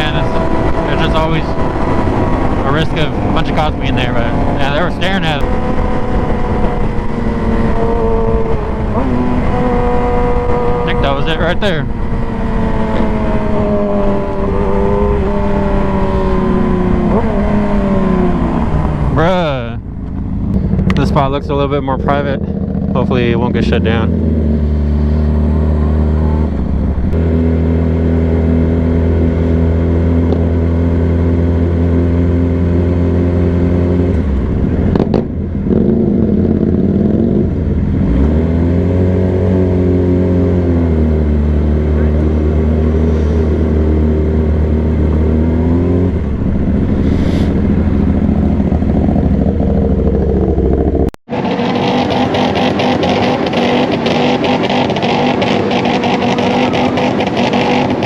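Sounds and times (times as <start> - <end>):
dense engine noise: 0.0 - 58.0
sport bike engine cruising: 0.0 - 58.0.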